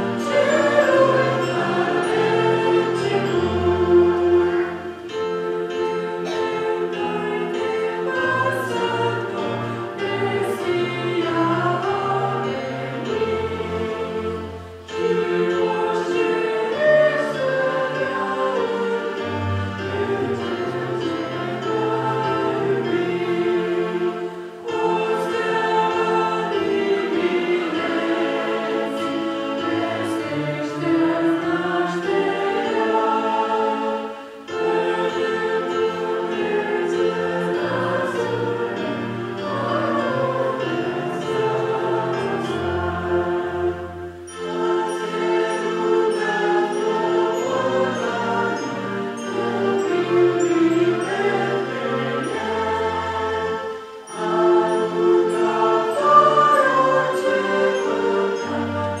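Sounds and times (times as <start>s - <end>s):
choir singing: 0.0s - 59.0s
instrumental accompaniment: 0.0s - 59.0s.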